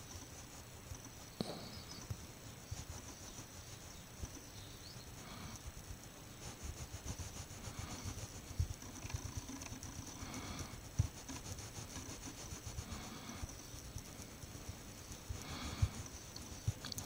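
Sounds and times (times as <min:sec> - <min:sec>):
cotton swab scratchy rubbing: 0:00.0 - 0:17.0.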